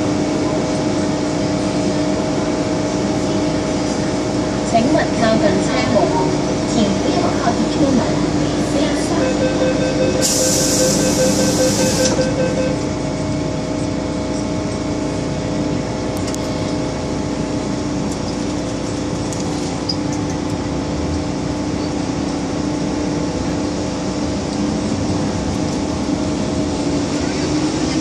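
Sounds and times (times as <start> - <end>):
train carriage hum: 0.0 - 28.0.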